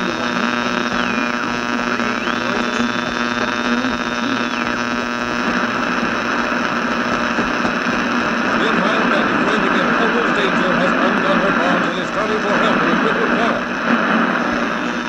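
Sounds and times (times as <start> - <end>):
mains hum: 0.0 - 15.0
radio static hiss: 0.0 - 15.0.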